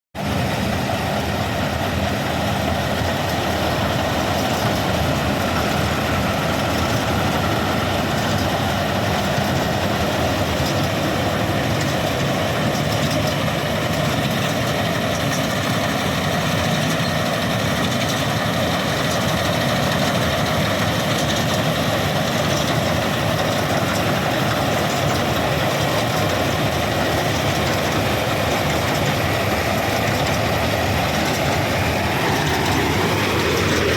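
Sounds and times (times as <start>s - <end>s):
diesel engine droning: 0.2s - 33.9s.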